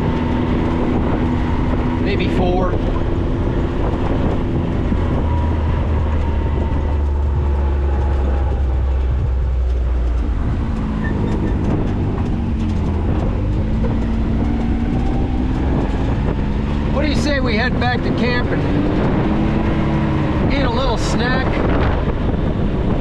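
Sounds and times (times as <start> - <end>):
off-road vehicle engine drone: 0.0 - 23.0.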